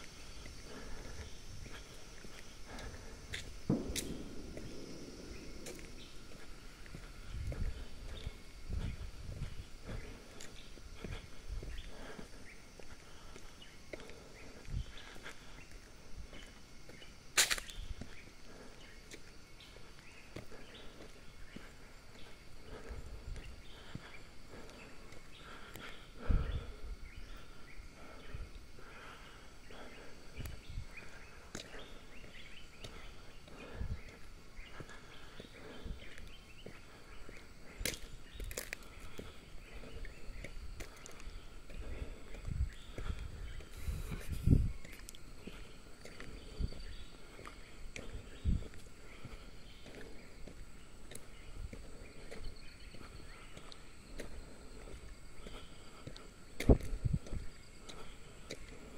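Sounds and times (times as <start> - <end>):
footsteps on concrete: 0.0 - 26.5, 28.0 - 58.9
faint forest background: 0.0 - 58.9.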